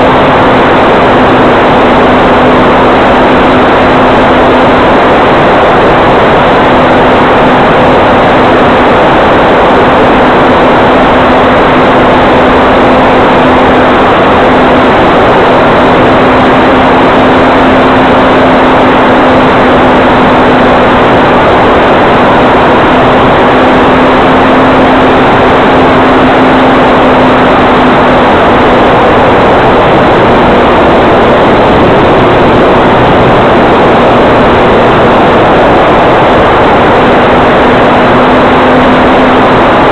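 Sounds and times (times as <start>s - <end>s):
model airplane motor humming: 0.0s - 39.9s
propeller rushing noise: 0.0s - 39.9s.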